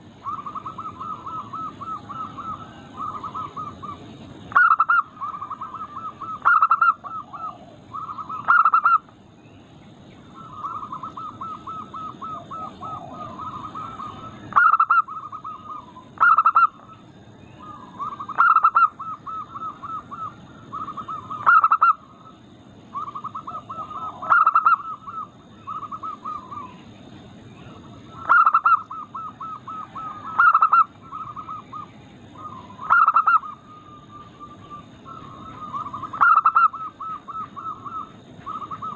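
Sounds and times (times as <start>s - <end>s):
doves cooing: 0.0s - 9.3s, 10.2s - 38.9s.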